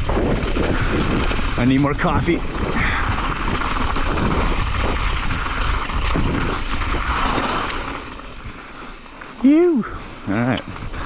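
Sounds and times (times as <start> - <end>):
wind rumble on microphone: 0.0 - 8.8, 9.8 - 11.0
bike rattling: 0.0 - 11.0
bike tyres crunching on gravel: 0.0 - 11.0.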